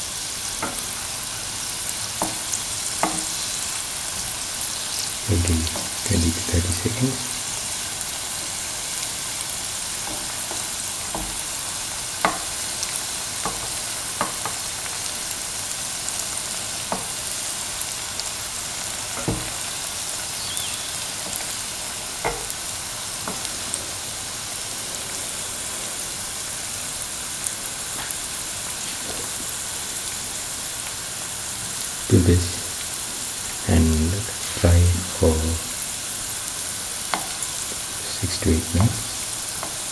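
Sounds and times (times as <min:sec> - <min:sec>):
dough balls frying in hot oil: 0:00.0 - 0:39.9.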